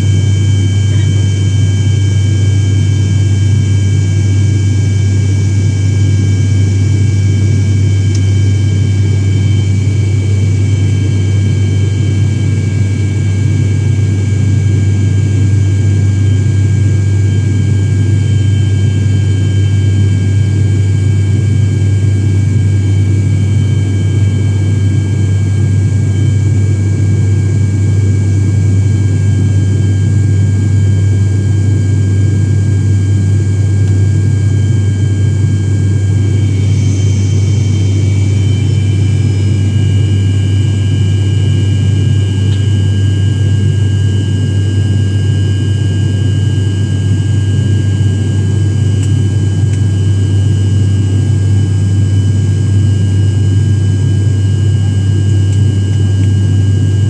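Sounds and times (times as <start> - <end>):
airliner cabin engine hum: 0.0 - 57.0.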